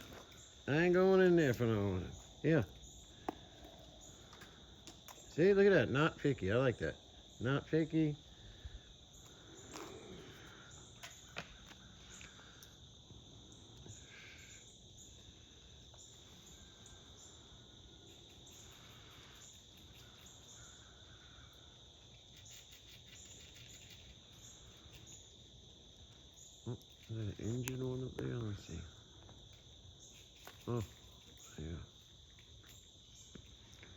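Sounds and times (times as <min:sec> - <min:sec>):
crickets and insects chirping: 0:00.0 - 0:33.9.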